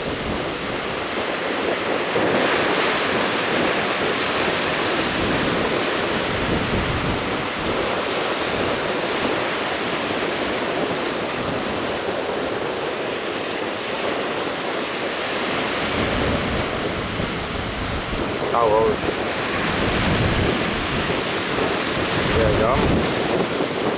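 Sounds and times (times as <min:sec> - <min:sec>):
rough sea: 0:00.0 - 0:23.9
strong wind: 0:00.0 - 0:23.9
wind buffeting microphone: 0:00.0 - 0:23.9.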